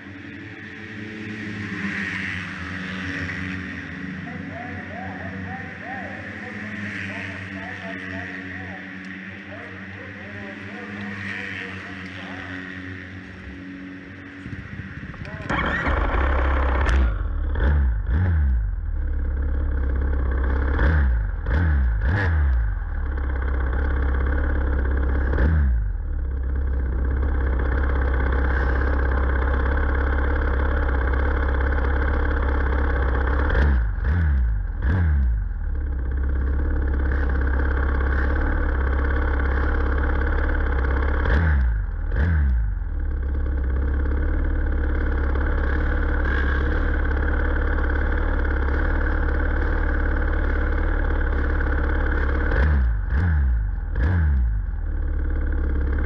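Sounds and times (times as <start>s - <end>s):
engine throttle blips: 0.0s - 56.0s
motorcycle engines idling: 0.0s - 56.0s.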